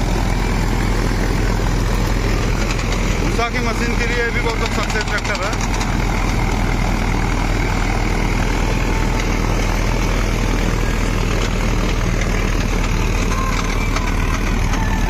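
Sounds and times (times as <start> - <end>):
straw reaper running: 0.0 - 15.0
tractor diesel engine under load: 0.0 - 15.0.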